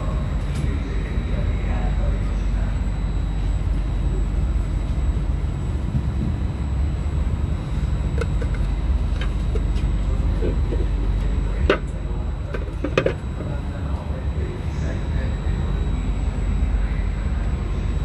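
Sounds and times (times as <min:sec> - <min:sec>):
train carriage rumble: 0:00.0 - 0:18.0.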